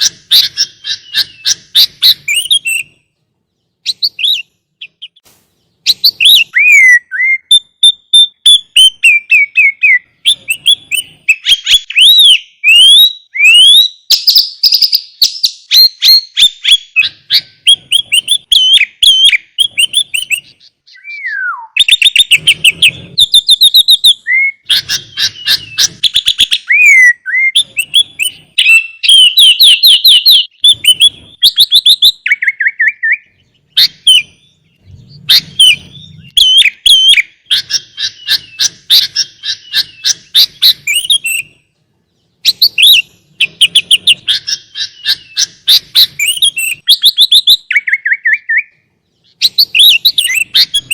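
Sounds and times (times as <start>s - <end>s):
bird singing chirps and trills: 0.0s - 50.9s.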